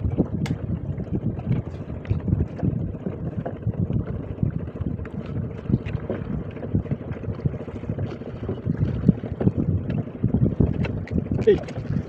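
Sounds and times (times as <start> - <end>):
water lapping at boat: 0.0 - 12.0
wind buffeting microphone: 0.0 - 12.0.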